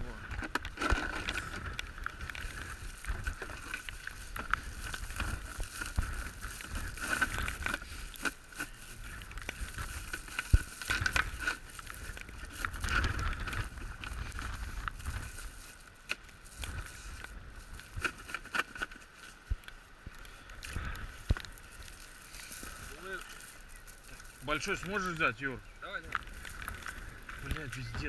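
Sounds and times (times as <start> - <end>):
gear knocking and rustling: 0.0 - 28.0.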